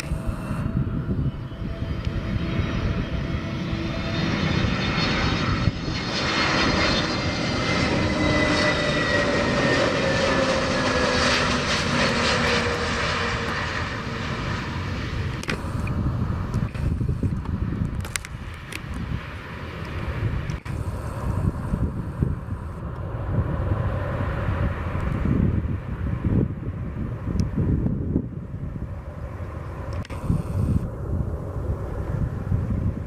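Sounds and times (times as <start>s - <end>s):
airliner engines whining: 0.0s - 33.0s.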